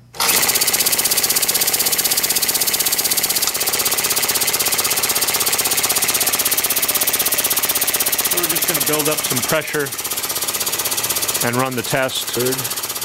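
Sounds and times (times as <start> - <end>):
air compressor pulsing: 0.0 - 13.0.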